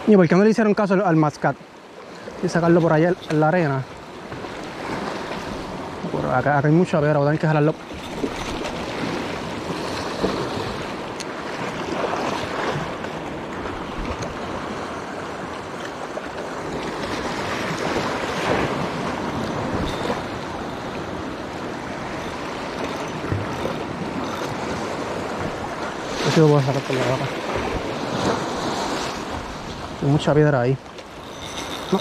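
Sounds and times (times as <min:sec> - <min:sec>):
waves washing over rocks: 0:00.0 - 0:32.0.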